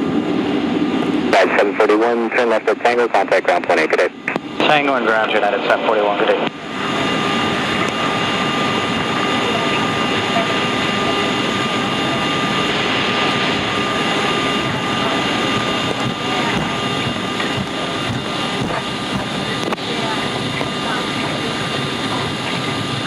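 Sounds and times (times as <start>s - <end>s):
jet engine cabin noise: 0.0s - 23.0s.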